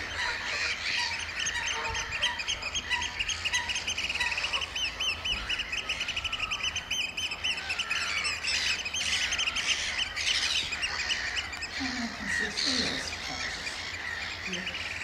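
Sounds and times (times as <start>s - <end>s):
birds piping shrilly: 0.0s - 15.0s.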